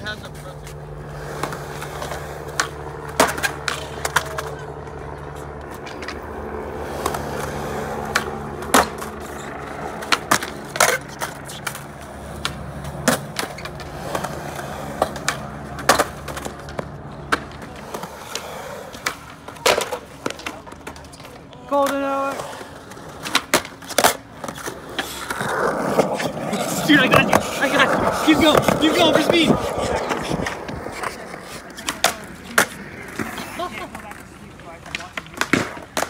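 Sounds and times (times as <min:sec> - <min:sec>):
skateboards rolling on concrete: 0:00.0 - 0:36.0
skateboard clacks: 0:00.7 - 0:36.0.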